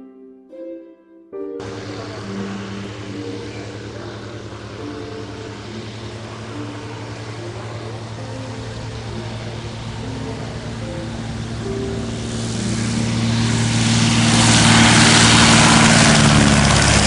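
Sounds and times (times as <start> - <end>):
faint background music: 0.0 - 16.0
light plane engine and propeller: 1.6 - 17.0.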